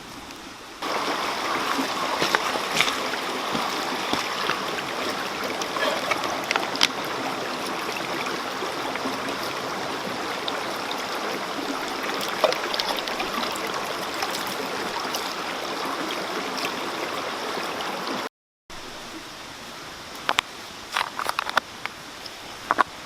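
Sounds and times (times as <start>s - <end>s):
mountain stream flowing: 0.0s - 23.0s.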